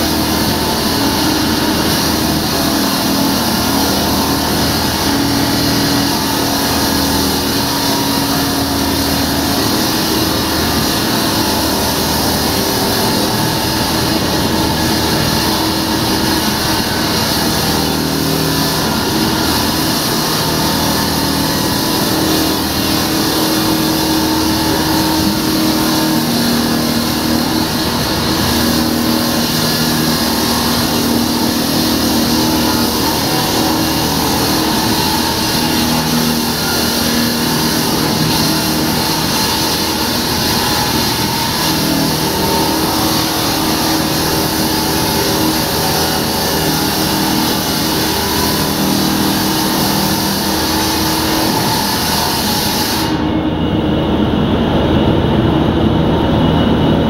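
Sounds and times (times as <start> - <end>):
concrete saw cutting: 0.0 - 53.5.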